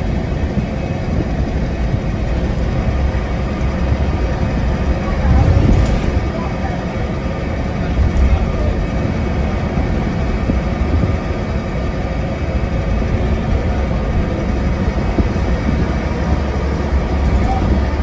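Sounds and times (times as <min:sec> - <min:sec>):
bus diesel engine rumble: 0:00.0 - 0:18.0
road and body noise: 0:00.0 - 0:18.0.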